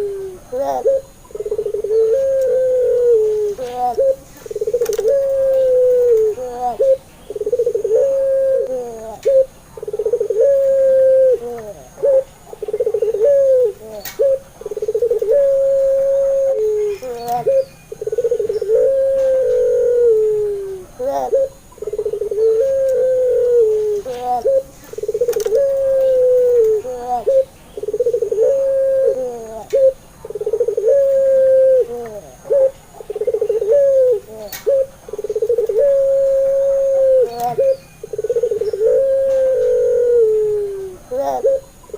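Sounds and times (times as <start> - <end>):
dove cooing and trilling: 0.0 - 41.9.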